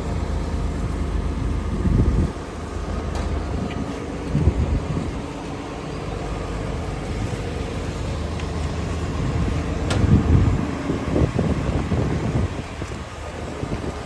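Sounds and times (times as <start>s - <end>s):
low rumble: 0.0s - 13.9s
excavator diesel engine running: 0.0s - 14.0s.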